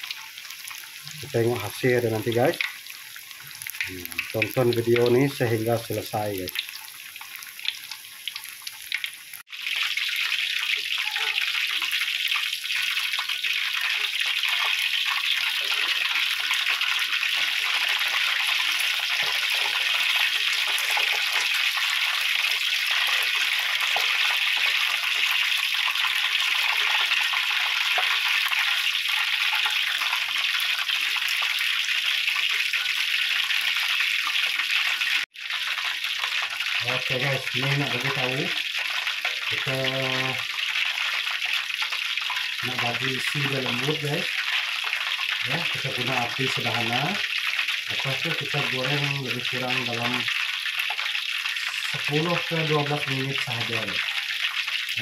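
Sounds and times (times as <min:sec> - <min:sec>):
chicken deep-frying in oil: 0:00.0 - 0:55.0.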